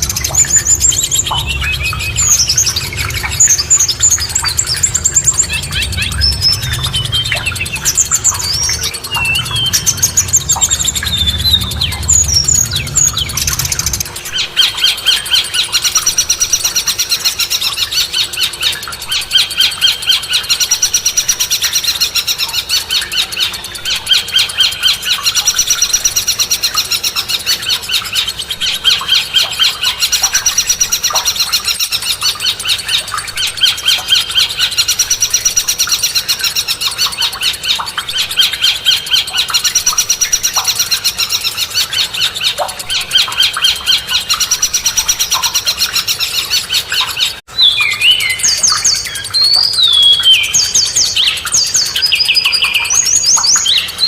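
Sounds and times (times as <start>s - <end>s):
falling whistled birdsong: 0.0s - 54.0s
songbird trilling: 0.0s - 54.0s.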